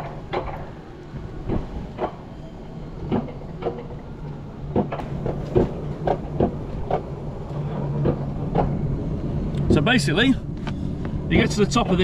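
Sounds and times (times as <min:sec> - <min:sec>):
coaster cart clicking on rail: 0:00.0 - 0:02.3, 0:03.0 - 0:12.0
steady low hum: 0:00.0 - 0:12.0.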